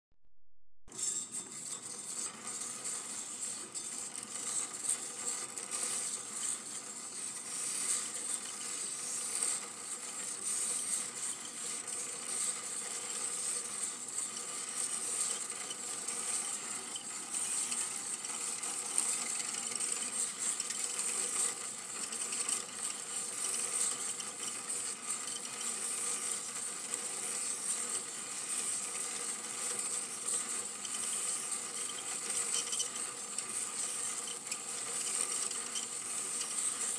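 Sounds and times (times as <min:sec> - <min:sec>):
film projector whirring: 0:00.9 - 0:36.9.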